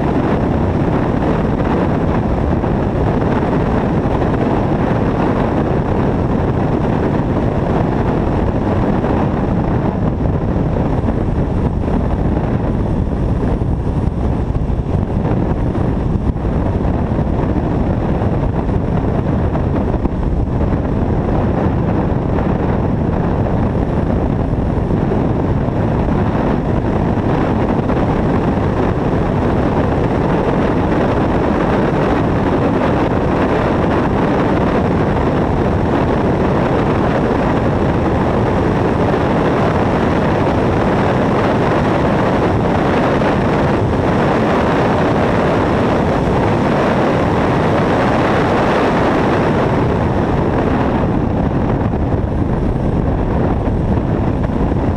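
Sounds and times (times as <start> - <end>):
car engine and tyre noise: 0.0 - 54.9
wind rushing on microphone: 0.0 - 54.9.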